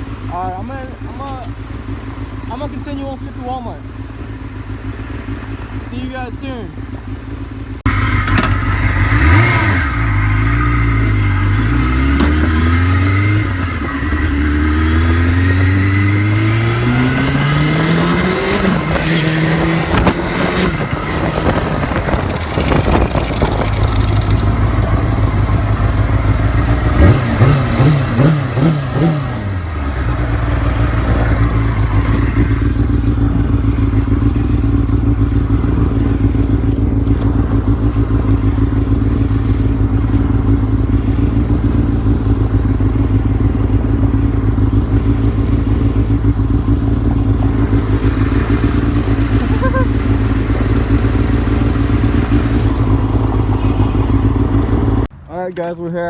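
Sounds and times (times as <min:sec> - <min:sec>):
motorcycle engine revving: 0:00.0 - 0:55.1.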